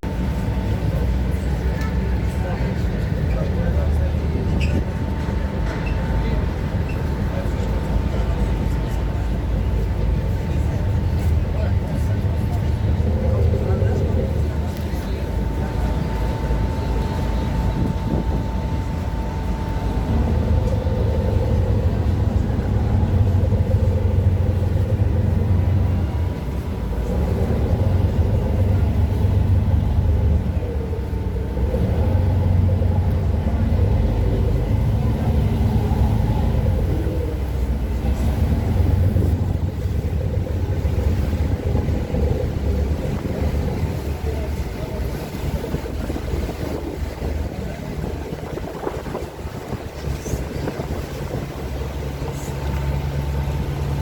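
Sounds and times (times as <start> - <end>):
boat engine droning: 0.0 - 54.0
wind noise on microphone: 8.1 - 54.0.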